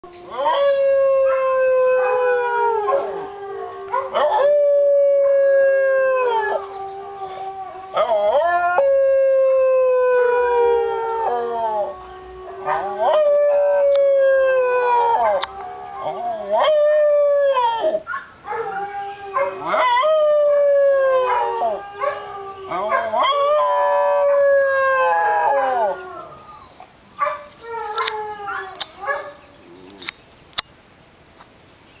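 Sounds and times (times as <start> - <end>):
dog howling: 0.1 - 29.8.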